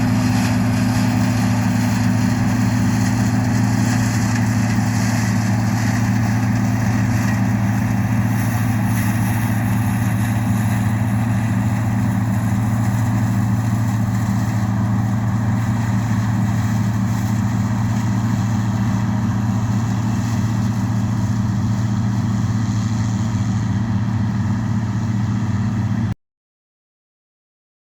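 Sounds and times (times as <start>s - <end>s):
harvest machinery engine hum: 0.0s - 26.2s.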